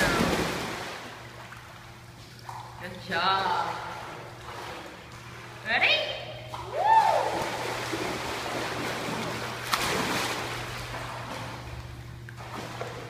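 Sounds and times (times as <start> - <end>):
water splashing and churning: 0.0 - 5.8, 6.4 - 13.0.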